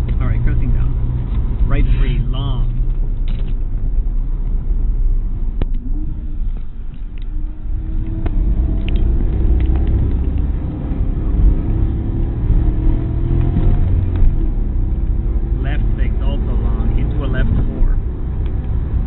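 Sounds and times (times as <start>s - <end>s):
car engine accelerating: 0.0s - 19.0s
road rumble: 0.0s - 19.0s.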